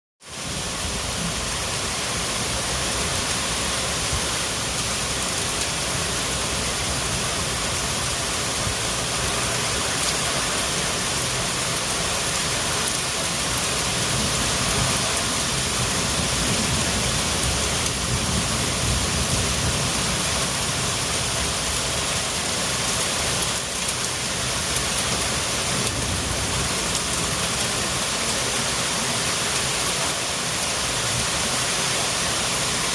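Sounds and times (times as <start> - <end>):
heavy rain pouring: 0.2 - 32.9.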